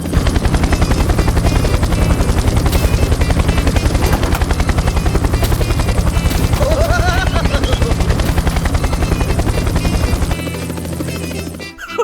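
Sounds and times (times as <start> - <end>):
small tractor engine running: 0.0 - 11.8.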